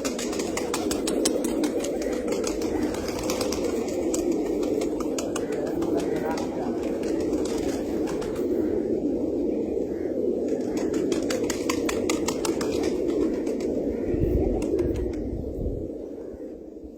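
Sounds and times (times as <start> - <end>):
flock of farm birds calling: 0.0 - 15.0.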